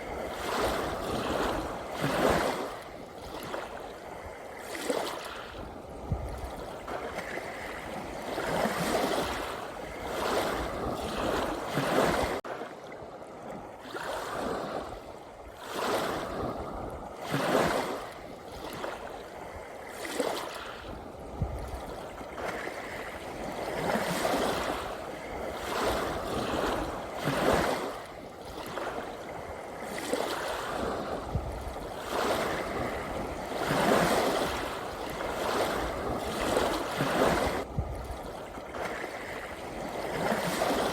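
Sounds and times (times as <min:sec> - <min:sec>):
ocean waves washing: 0:00.0 - 0:40.9.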